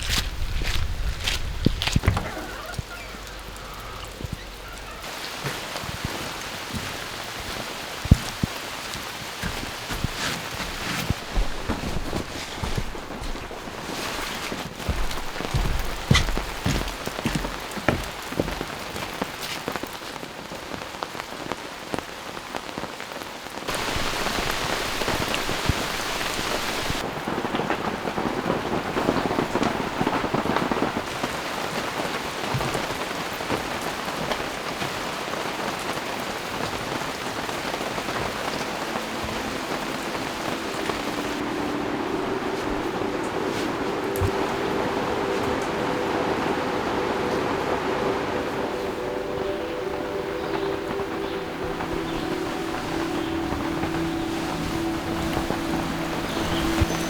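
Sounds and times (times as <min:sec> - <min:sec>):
heavy raindrops striking surface: 0:00.0 - 0:57.0
steady downpour hiss: 0:00.0 - 0:57.0.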